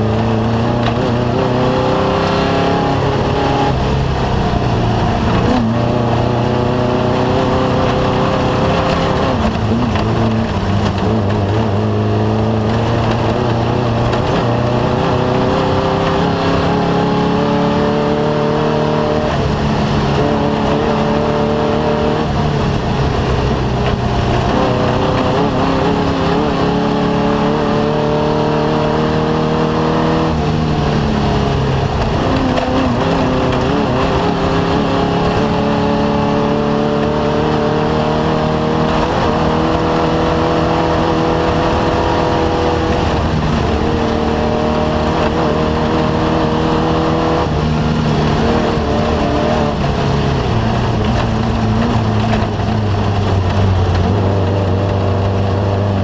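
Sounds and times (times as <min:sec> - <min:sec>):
race vehicle engine running hard: 0:00.0 - 0:56.0.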